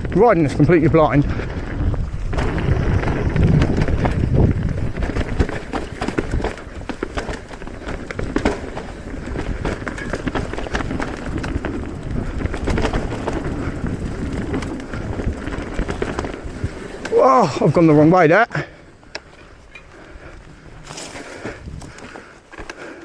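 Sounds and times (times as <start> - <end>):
bike rattling over roots: 0.0 - 23.0
bike tyres rumbling on dirt: 0.0 - 23.0.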